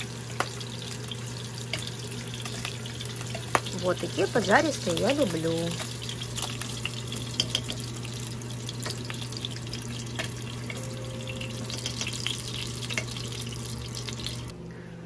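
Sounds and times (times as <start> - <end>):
meat sizzling in a pan: 0.0 - 14.5.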